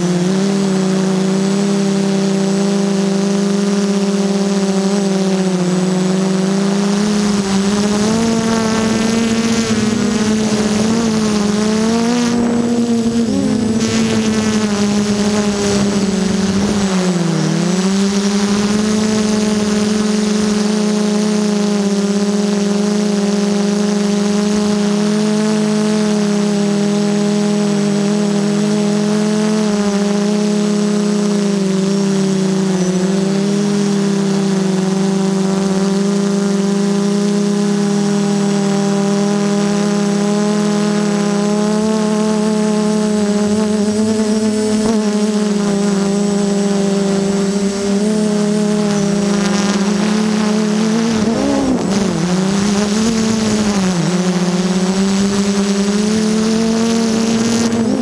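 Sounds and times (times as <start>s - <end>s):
drone motors humming: 0.0s - 58.0s.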